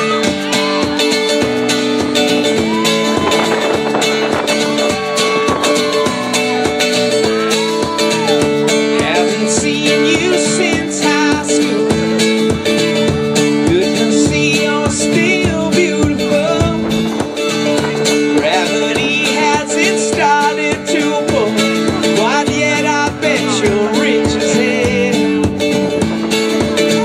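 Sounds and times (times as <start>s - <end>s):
strummed acoustic guitars: 0.0s - 27.0s.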